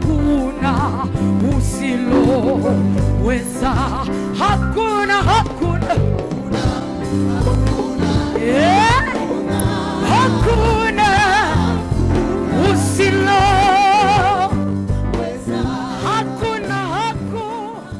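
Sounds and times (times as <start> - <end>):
band with rhythmic bass line: 0.0 - 17.9
person singing with vibrato: 0.0 - 17.9.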